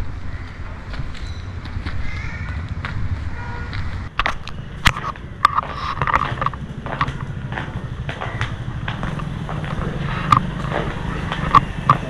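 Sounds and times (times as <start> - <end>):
steady low rumble: 0.0 - 12.0
footsteps on tiled floor: 0.2 - 12.0.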